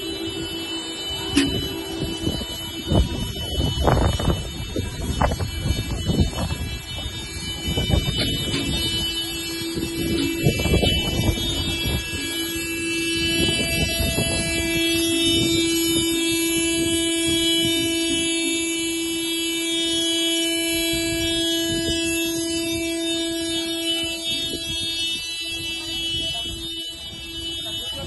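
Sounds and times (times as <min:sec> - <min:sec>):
vehicle horn steady tone: 0:00.0 - 0:28.0.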